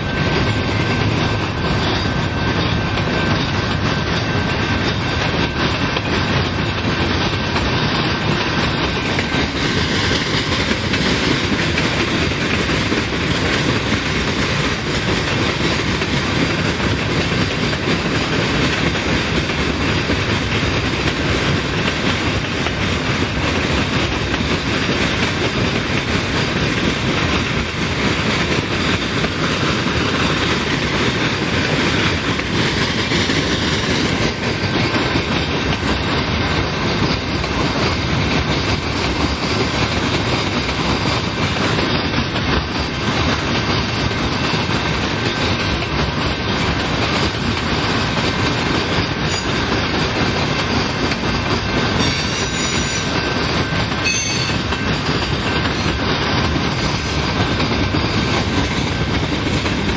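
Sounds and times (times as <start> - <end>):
steel wheels running on rails: 0.0 - 59.9.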